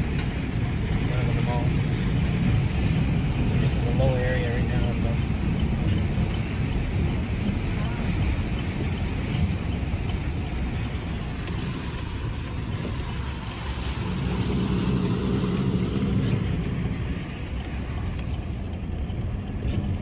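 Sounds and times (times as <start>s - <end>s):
engine and tyres rumbling: 0.0s - 20.0s
water washing under car: 0.0s - 20.0s.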